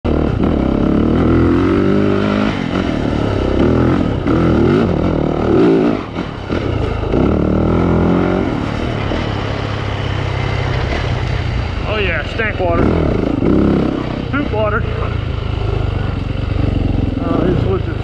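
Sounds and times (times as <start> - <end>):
dirt bike engine revving: 0.1 - 18.0.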